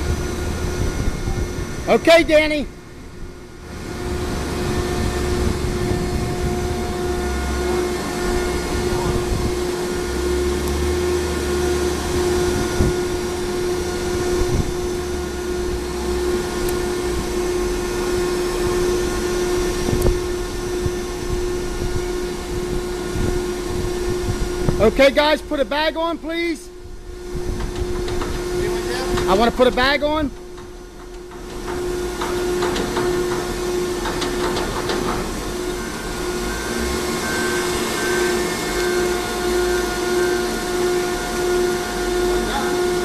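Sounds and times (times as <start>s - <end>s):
baler humming and rumbling: 0.0s - 43.0s.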